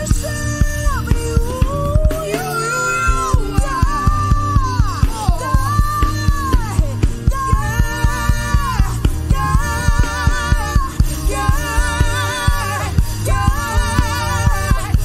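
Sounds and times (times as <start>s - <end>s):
gospel band with keyboard: 0.0s - 15.0s
woman singing with vibrato: 0.0s - 15.0s.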